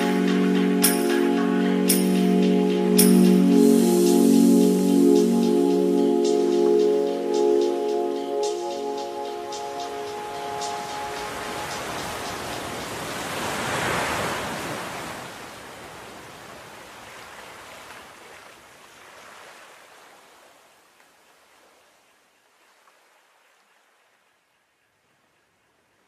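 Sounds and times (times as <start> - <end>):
rushing rain-like hiss: 0.0 - 21.4.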